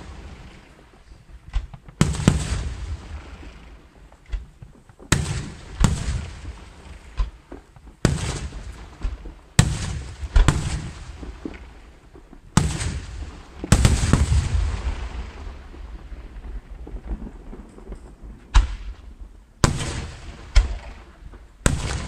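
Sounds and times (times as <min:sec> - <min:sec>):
low rolling rumble: 0:00.0 - 0:21.7
firework bangs: 0:00.0 - 0:22.0.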